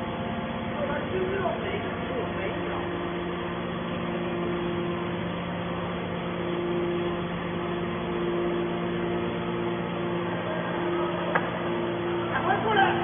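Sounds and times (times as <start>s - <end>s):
hydraulic baler humming: 0.0s - 13.0s.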